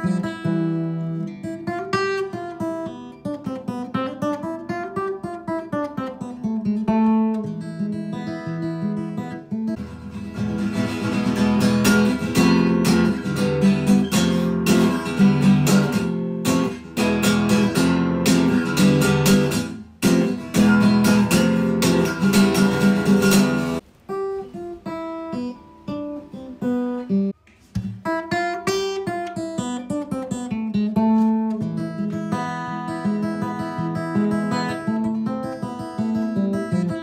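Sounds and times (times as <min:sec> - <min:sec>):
acoustic guitar strumming and picking: 0:00.0 - 0:37.0.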